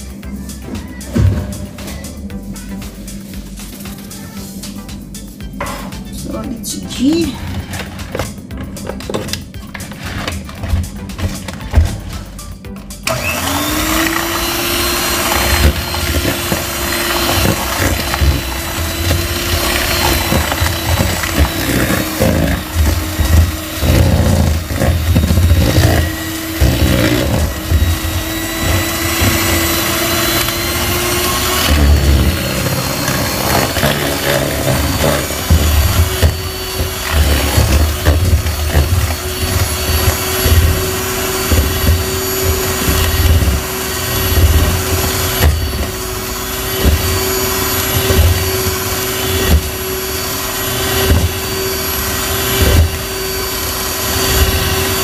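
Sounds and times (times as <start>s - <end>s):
electric hand mixer running: 7.0s - 12.2s, 13.0s - 55.0s.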